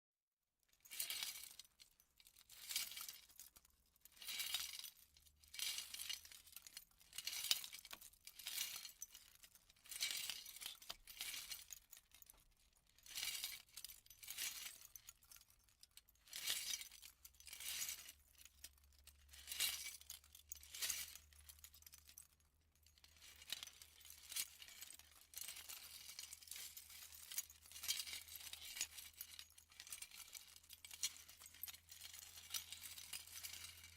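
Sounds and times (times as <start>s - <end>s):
jewelry jangling and clinking: 0.7s - 33.9s.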